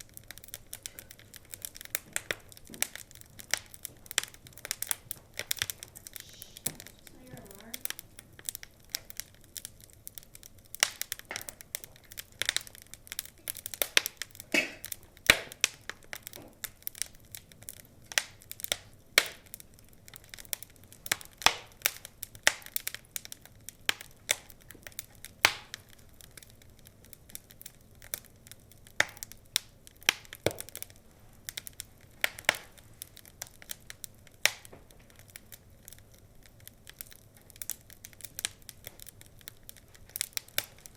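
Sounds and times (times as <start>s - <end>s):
burning logs crackling and popping: 0.0s - 40.9s.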